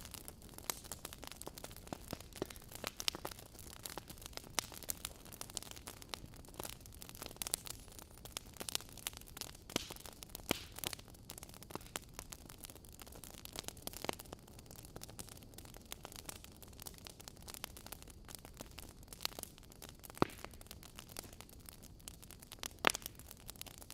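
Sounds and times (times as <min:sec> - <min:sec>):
fire soft hiss: 0:00.0 - 0:23.9
logs crackling and popping: 0:00.0 - 0:23.9.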